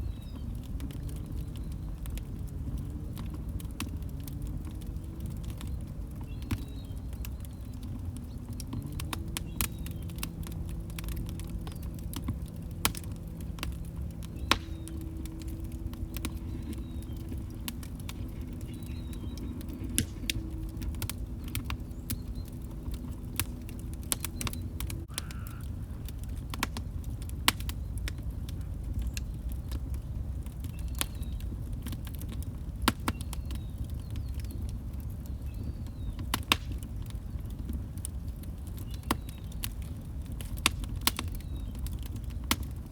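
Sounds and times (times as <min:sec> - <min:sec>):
low steady hum: 0:00.0 - 0:36.2
fire crackling and popping: 0:00.0 - 0:42.9
fire flames rumbling: 0:00.0 - 0:42.9.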